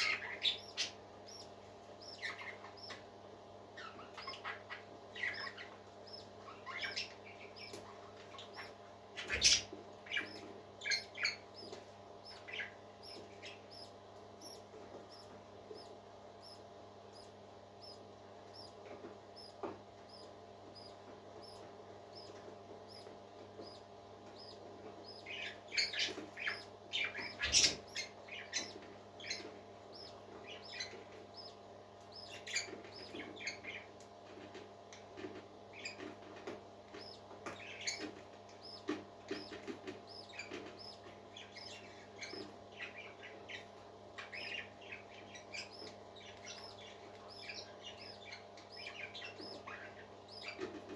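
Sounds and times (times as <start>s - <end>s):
parakeets chirping and chattering: 0.0s - 50.9s
steady low hum: 0.0s - 50.9s.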